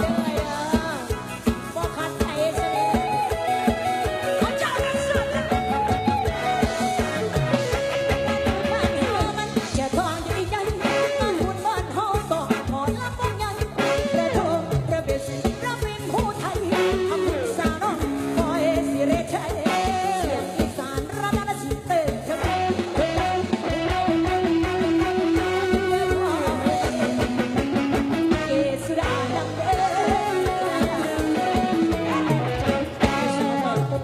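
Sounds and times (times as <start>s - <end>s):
electric plucked strings: 0.0s - 34.0s
person singing: 0.0s - 34.0s
steady drum beat: 0.0s - 34.0s.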